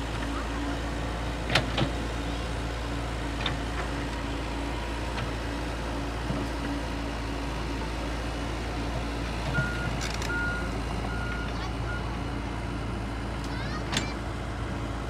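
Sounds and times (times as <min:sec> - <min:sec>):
excavator diesel engine idling: 0:00.0 - 0:15.0.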